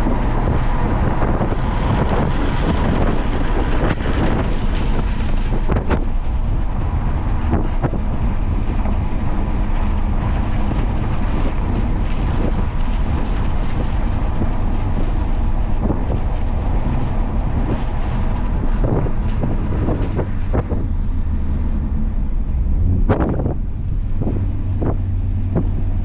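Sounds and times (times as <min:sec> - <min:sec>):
car engine and road noise: 0:00.0 - 0:26.0
wind buffeting microphone: 0:00.0 - 0:26.0.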